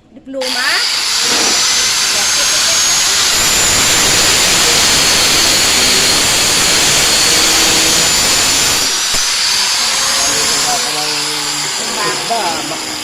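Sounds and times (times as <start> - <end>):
welding arc hissing: 0.4 - 13.0.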